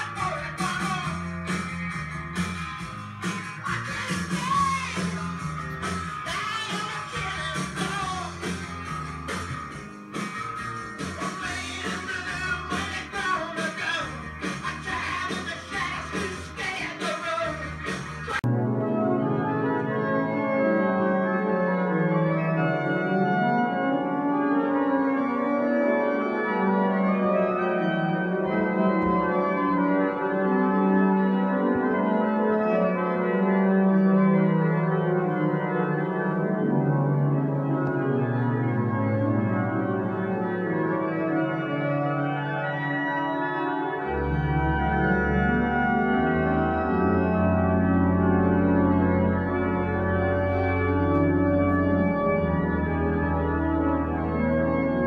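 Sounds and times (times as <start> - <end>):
organ playing slow chords: 5.1 - 55.0.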